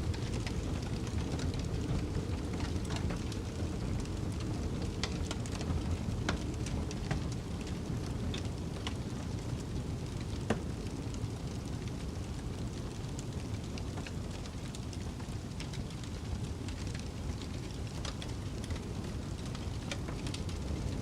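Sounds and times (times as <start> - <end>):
fire popping and snapping: 0.0 - 21.0
snowstorm wind rumble: 0.0 - 21.0
wood fire crackling: 0.0 - 21.0.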